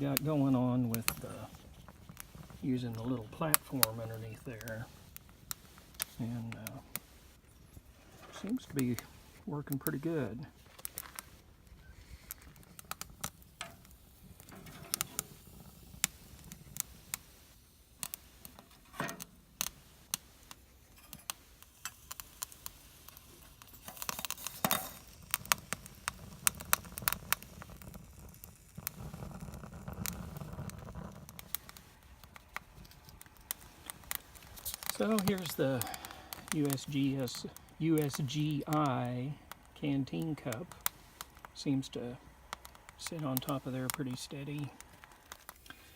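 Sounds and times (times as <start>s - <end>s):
twig fire crackling: 0.0s - 45.9s.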